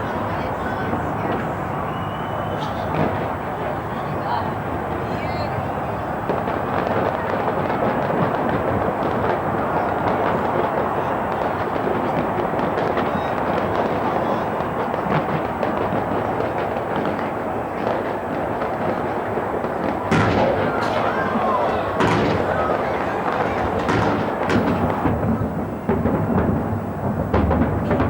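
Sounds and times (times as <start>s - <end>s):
fireworks crackling and banging: 0.0s - 28.0s.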